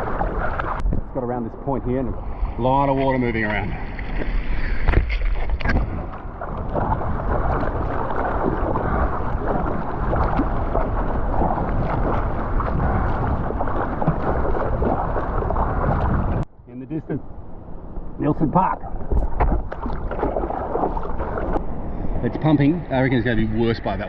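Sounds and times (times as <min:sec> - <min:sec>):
water sloshing and splashing: 0:00.0 - 0:16.5, 0:18.6 - 0:23.0
wind on microphone: 0:00.0 - 0:16.5, 0:17.3 - 0:24.0.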